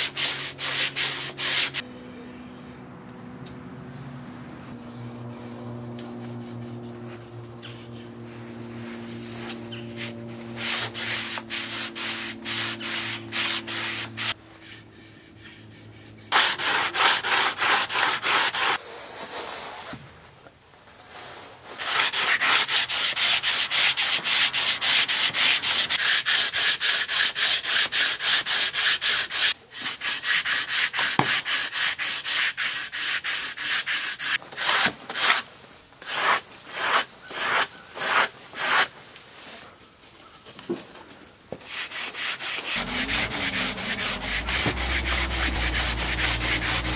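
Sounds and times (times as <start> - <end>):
hand-sanding strokes on wood: 0.0 - 1.8, 4.0 - 19.8, 21.7 - 35.4, 36.0 - 39.5, 41.6 - 46.9.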